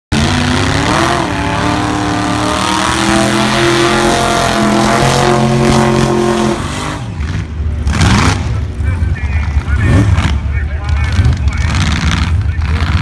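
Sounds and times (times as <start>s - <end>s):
drag car engine at high revs: 0.1s - 13.0s.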